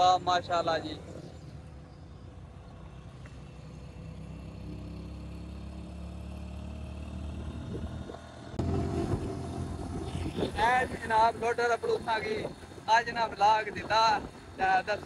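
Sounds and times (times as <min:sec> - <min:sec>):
road noise: 0:00.0 - 0:15.0
small engine running: 0:02.8 - 0:15.0.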